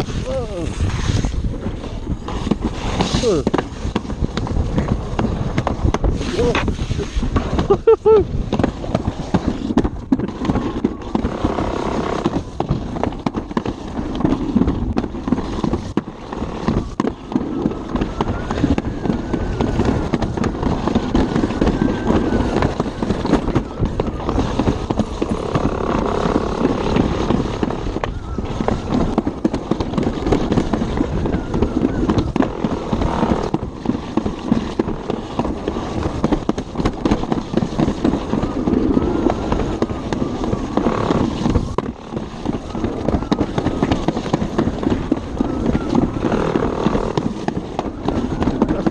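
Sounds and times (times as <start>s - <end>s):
sled rumbling down concrete track: 0.0s - 48.9s.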